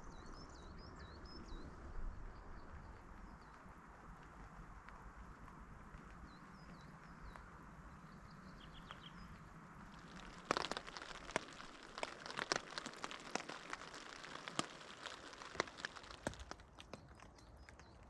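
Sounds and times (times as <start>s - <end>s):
outdoor background noise: 0.0s - 18.0s
small bird chirping: 0.0s - 18.0s.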